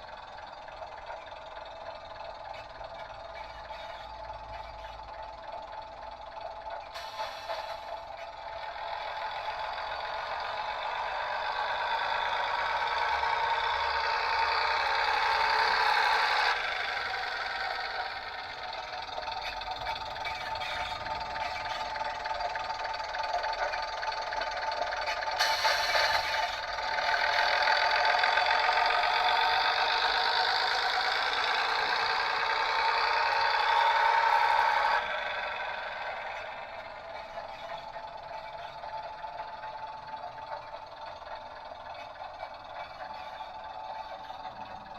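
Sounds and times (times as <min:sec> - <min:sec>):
diesel engine sound from small speaker: 0:00.0 - 0:44.9.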